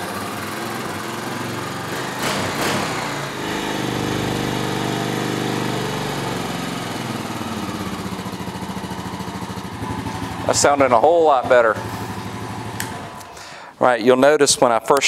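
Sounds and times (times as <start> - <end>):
engine idling high: 0.0 - 13.7.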